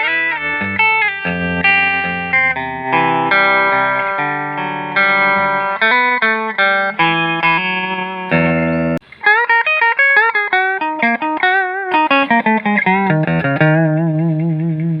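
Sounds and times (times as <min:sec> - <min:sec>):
electric guitar lead line: 0:00.0 - 0:15.0.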